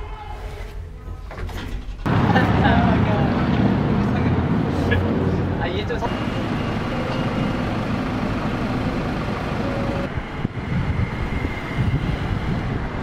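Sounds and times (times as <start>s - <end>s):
traffic noise with low rumble: 0.8s - 13.0s.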